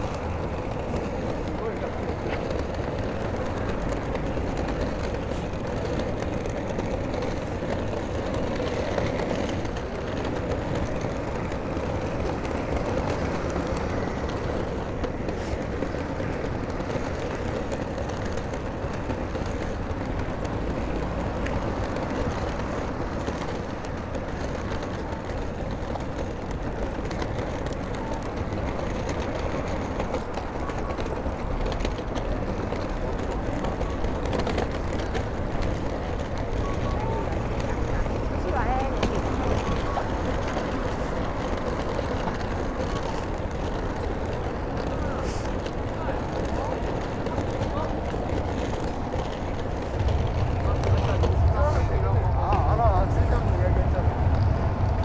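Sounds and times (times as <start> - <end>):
low traffic rumble: 0.0 - 55.0.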